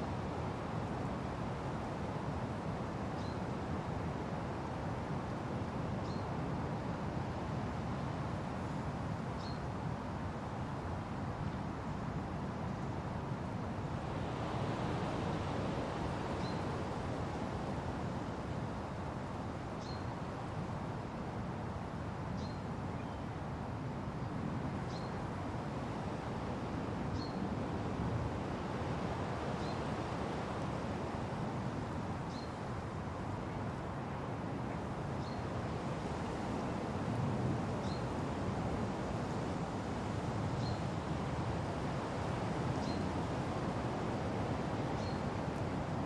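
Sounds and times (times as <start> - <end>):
wind through trees: 0.0 - 46.0.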